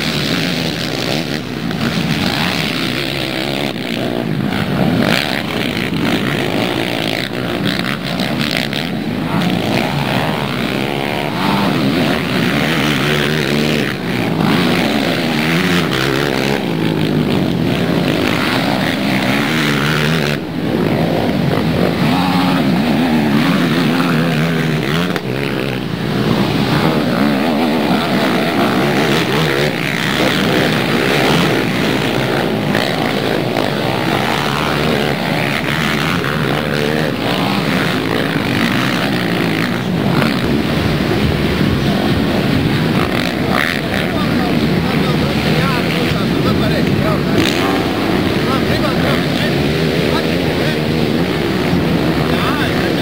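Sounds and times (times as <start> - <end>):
quad bike engines revving: 0.0 - 53.0.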